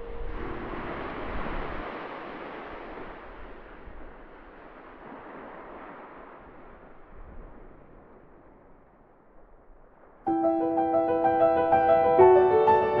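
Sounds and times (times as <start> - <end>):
surf rushing: 0.0 - 9.0, 10.2 - 13.0
wind: 0.0 - 13.0.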